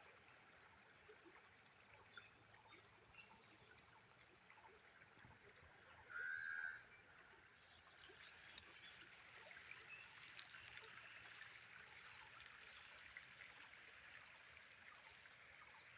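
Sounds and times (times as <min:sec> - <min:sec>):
stream trickling: 0:00.0 - 0:15.9.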